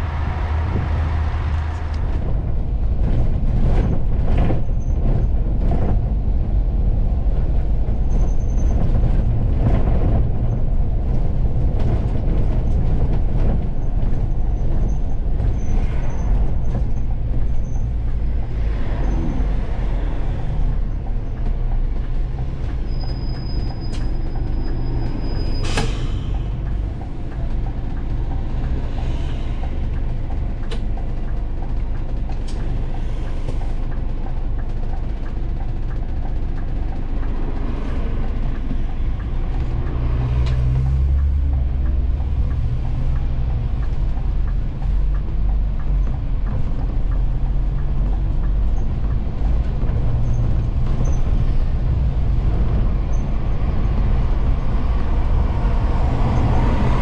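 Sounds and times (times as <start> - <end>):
coach engine and road rumble: 0.0 - 57.0.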